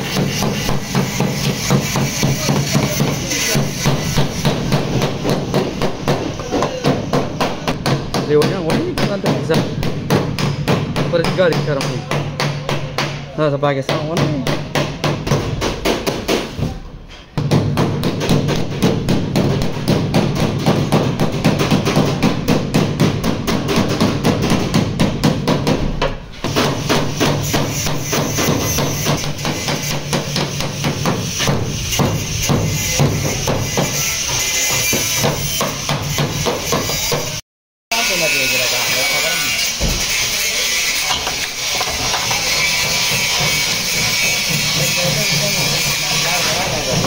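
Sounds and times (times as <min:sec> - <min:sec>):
hammer striking sheet metal: 0:00.0 - 0:47.0.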